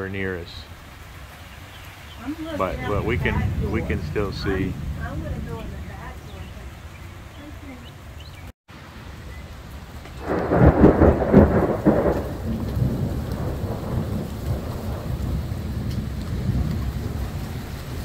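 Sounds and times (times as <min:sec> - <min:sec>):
steady rain: 0:00.0 - 0:18.0
thunder clap and rumble: 0:02.2 - 0:08.2, 0:09.1 - 0:18.0.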